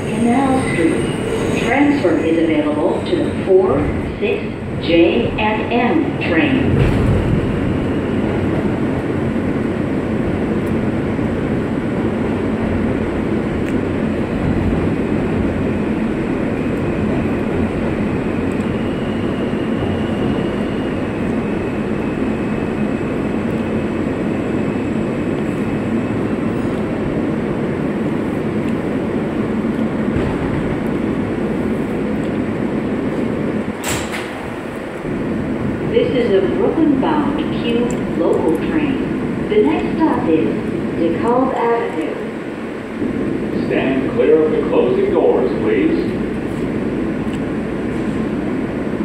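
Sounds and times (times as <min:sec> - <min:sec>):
subway wheels rumbling on rails: 0:00.0 - 0:49.0.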